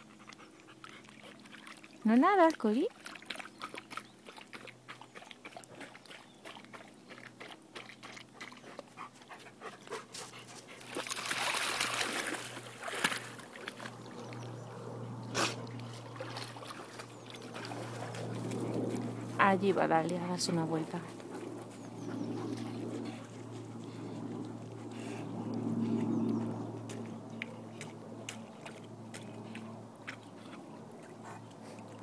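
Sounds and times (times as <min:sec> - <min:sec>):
dog splashing through water: 0:00.8 - 0:09.2, 0:10.4 - 0:21.3, 0:25.5 - 0:32.0.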